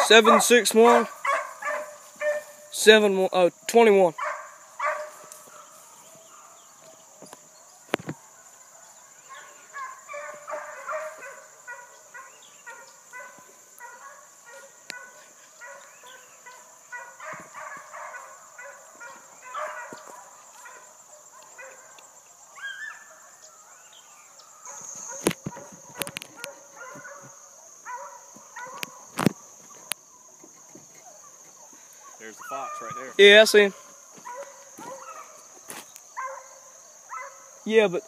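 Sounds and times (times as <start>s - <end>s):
distant hounds baying: 0.0s - 2.8s, 3.6s - 37.7s.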